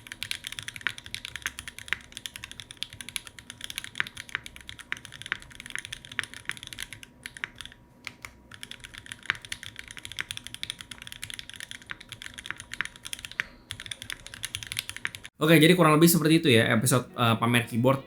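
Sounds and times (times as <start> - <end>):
mechanical keyboard key clacks: 0.0 - 15.3.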